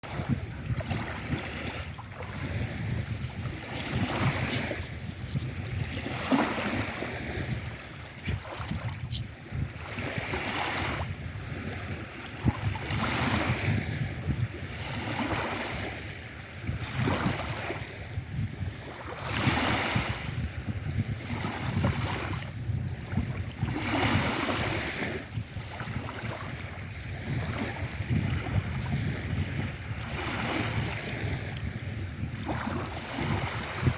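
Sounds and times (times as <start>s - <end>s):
waves breaking on a beach: 0.0s - 33.9s
wind rumble on microphone: 0.0s - 33.9s.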